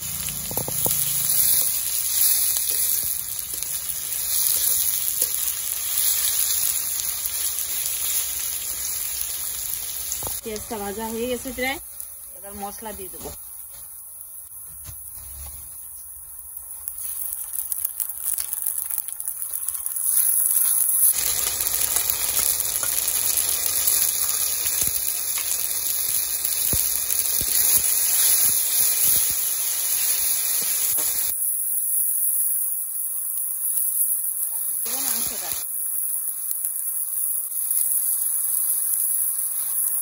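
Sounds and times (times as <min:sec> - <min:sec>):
onions sizzling in oil: 0:00.0 - 0:40.0.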